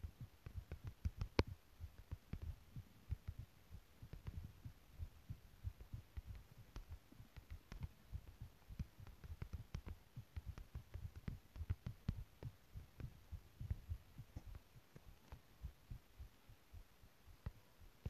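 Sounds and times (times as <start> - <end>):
fingertips tapping on touchscreen: 0.0 - 17.6.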